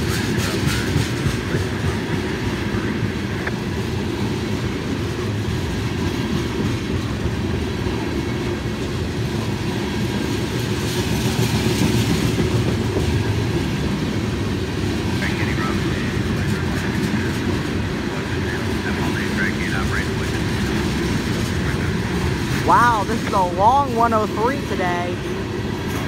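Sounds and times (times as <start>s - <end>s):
freight train wheels rumbling on rails: 0.0s - 26.0s.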